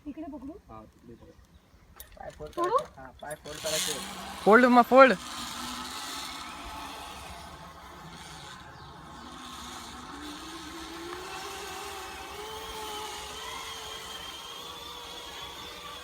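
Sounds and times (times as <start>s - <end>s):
zipline pulley whirring on cable: 2.5s - 16.0s.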